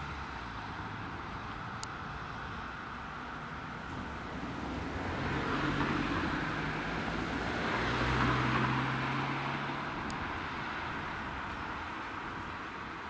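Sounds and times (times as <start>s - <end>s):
road vehicles passing: 0.0s - 13.0s.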